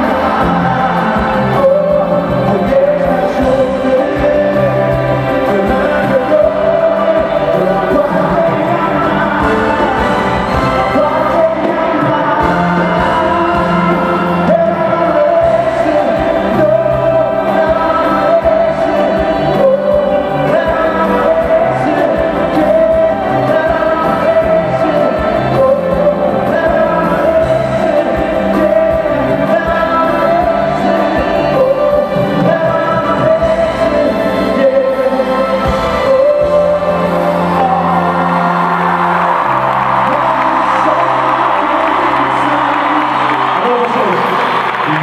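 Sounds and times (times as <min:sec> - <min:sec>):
live concert music with singing: 0:00.0 - 0:45.0.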